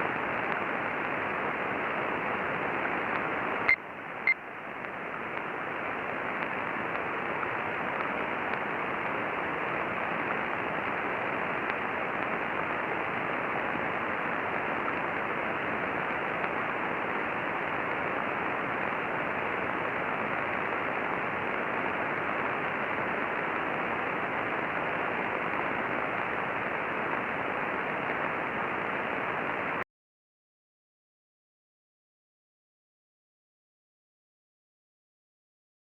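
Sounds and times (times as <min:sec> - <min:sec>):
radio static hiss: 0:00.0 - 0:29.8.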